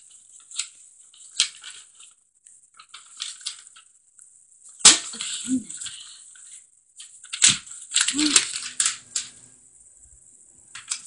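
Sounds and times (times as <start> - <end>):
paper rustling and shuffling: 0.0 - 4.0, 4.6 - 9.5.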